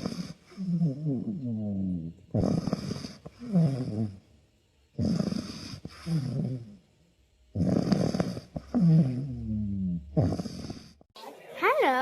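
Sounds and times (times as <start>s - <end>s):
dog snoring: 0.0s - 4.3s, 4.9s - 6.9s, 7.5s - 11.1s.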